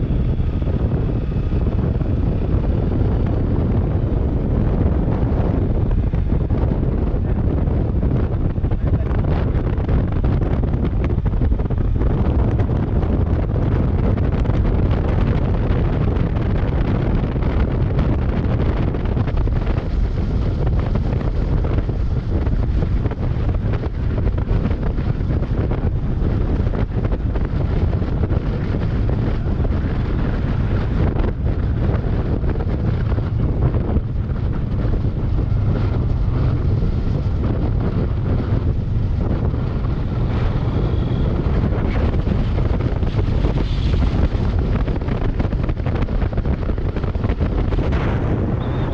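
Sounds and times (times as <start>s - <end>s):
motorcycle road and running noise: 0.0s - 48.9s
wind buffeting microphone: 0.0s - 48.9s.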